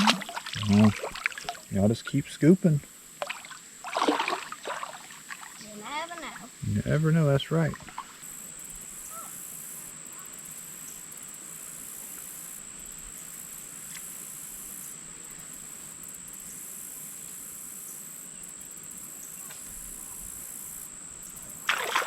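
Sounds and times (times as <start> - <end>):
insects chirping chorus: 0.0 - 22.0
pulsing insect trill: 0.0 - 22.0.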